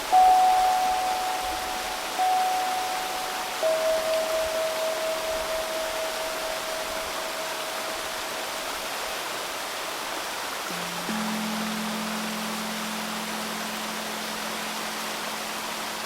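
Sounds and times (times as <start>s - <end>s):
higher tone: 0.0s - 8.9s, 10.7s - 15.7s
low steady tones: 0.0s - 16.0s
shallow river over stones: 0.0s - 16.0s.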